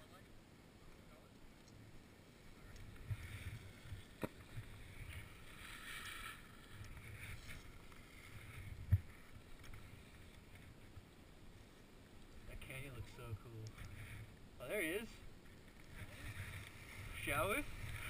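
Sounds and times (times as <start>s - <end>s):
skis sliding over snow: 2.3s - 18.0s.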